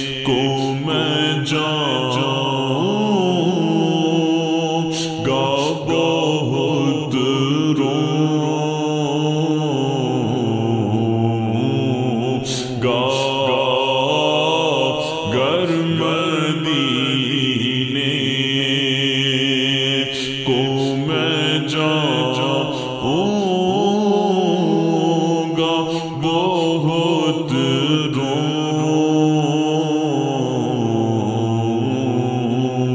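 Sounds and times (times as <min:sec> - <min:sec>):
person chanting devotional poetry: 0:00.0 - 0:32.9.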